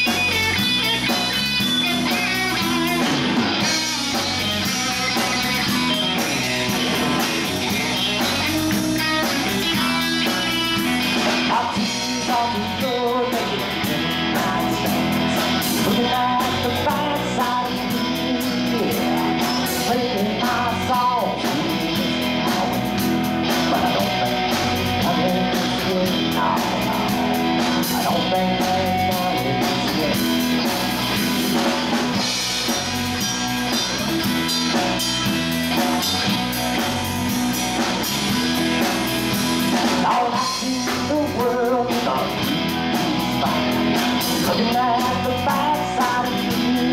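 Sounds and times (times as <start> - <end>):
bass guitar: 0.0 - 46.9
drum kit: 0.0 - 46.9
electric guitar lead: 0.0 - 46.9.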